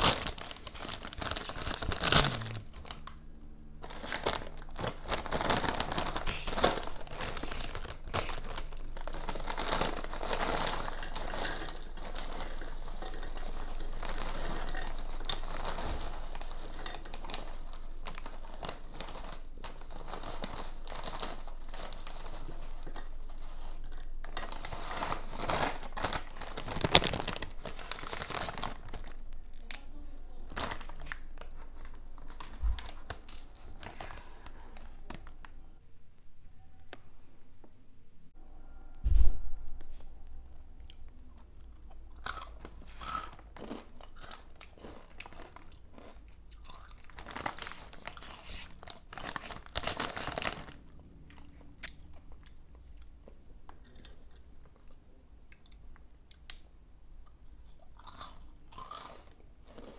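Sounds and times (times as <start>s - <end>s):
plastic chip bag crinkling: 0.0s - 3.2s, 3.8s - 35.7s, 40.9s - 55.0s, 57.4s - 59.9s.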